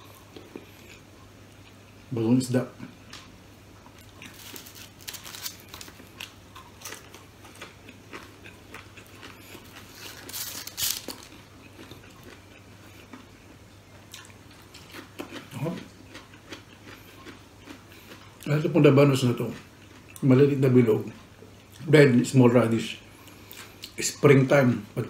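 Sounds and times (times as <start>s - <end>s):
person chewing crispy food: 0.0s - 2.0s, 3.1s - 20.3s, 23.1s - 24.0s.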